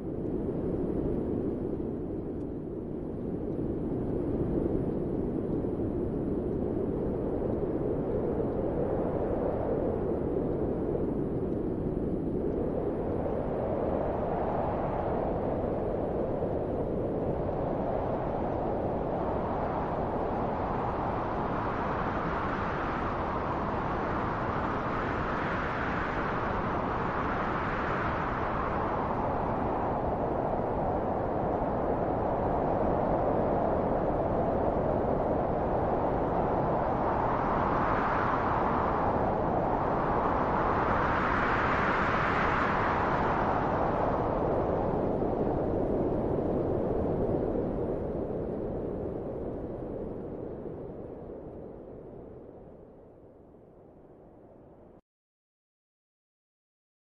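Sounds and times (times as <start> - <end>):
wind blowing: 0.0 - 55.0.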